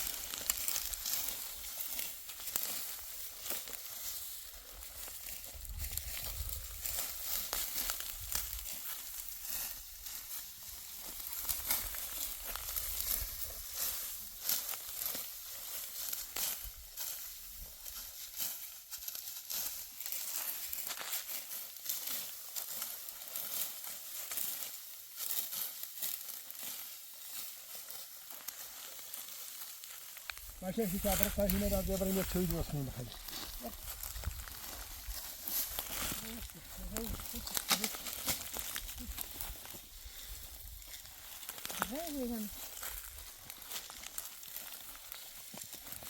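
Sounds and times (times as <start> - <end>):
sickle cutting dry wheat stalks: 0.0 - 46.0.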